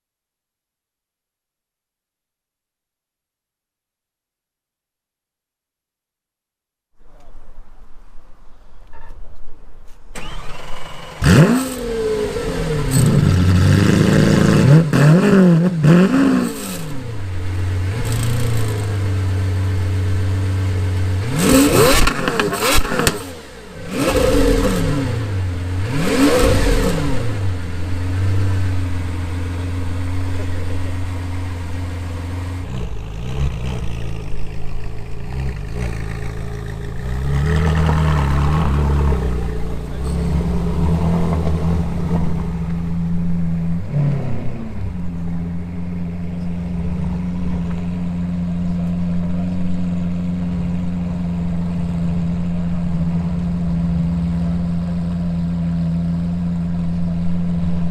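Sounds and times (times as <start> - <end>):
car engine revving and idling: 10.2 - 57.9.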